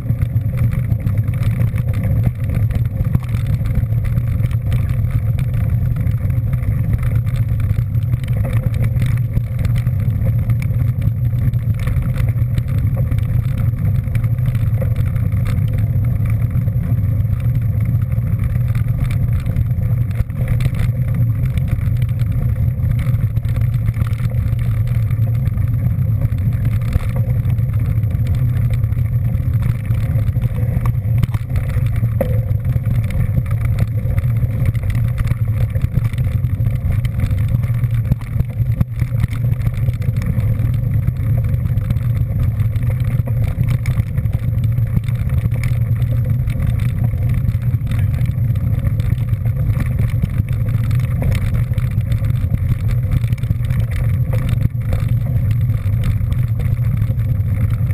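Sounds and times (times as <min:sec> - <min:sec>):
vehicle engine and road noise drone: 0:00.0 - 0:57.9.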